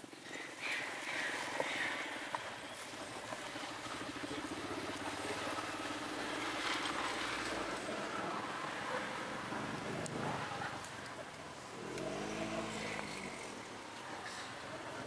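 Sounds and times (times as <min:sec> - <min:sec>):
vehicle engine running: 0:02.5 - 0:15.0.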